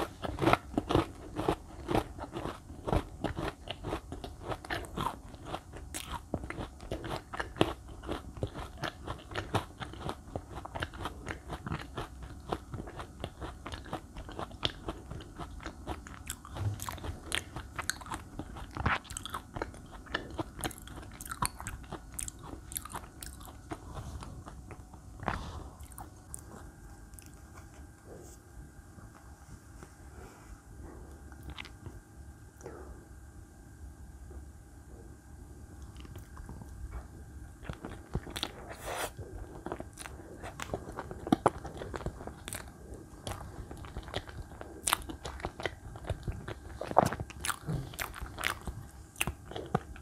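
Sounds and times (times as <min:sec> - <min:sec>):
crunching and chewing snack: 0:00.0 - 0:28.4, 0:30.8 - 0:32.9, 0:35.7 - 0:50.0.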